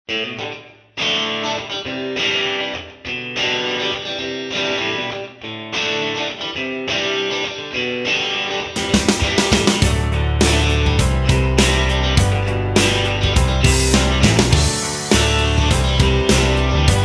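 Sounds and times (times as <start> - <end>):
strummed guitar chords: 0.1 - 17.0.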